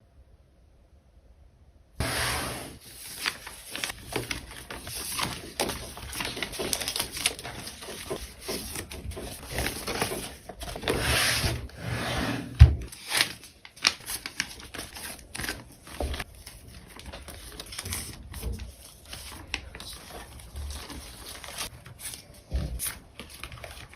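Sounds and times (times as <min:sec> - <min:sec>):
packaging rustling and crinkling: 0:02.8 - 0:11.8, 0:12.8 - 0:23.9.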